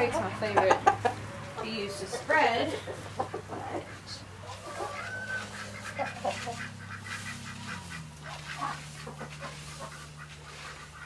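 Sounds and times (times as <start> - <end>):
poultry calling: 0.0 - 11.0
steady low hum: 0.0 - 11.0
rake scraping pellet bedding: 1.6 - 11.0.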